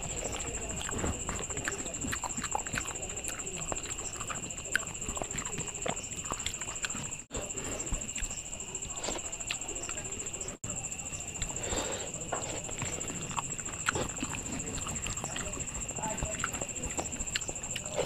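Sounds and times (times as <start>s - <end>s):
fingers mixing wet rice: 0.0s - 18.0s
person chewing: 0.0s - 18.0s.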